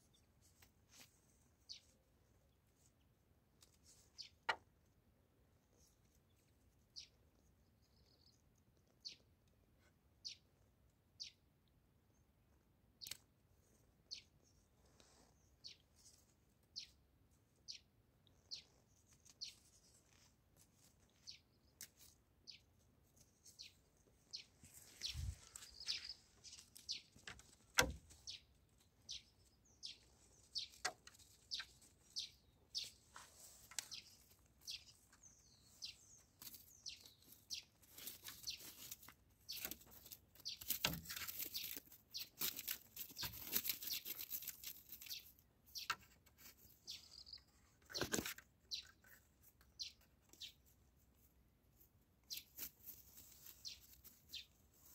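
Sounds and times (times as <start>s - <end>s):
bird chirping: 5.7s - 12.3s, 13.0s - 14.7s, 15.3s - 50.7s, 52.2s - 54.9s.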